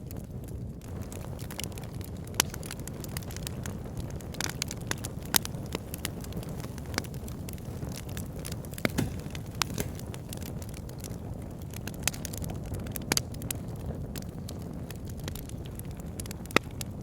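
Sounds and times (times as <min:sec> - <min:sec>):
burning logs crackling and popping: 0:00.0 - 0:17.0
low roar of fire: 0:00.0 - 0:17.0.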